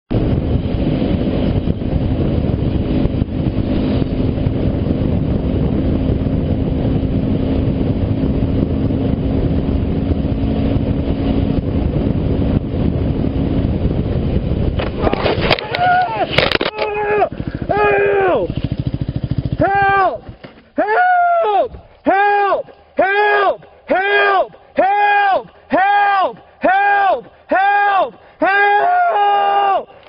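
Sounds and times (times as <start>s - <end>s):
motorcycle engine hum: 0.1s - 27.5s
wind rushing over microphone: 0.1s - 30.0s.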